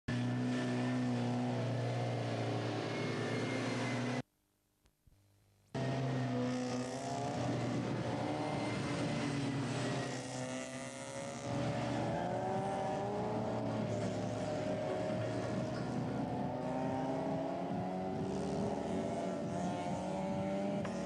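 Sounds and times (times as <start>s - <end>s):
race car engine revving: 0.1s - 4.2s, 5.8s - 21.0s.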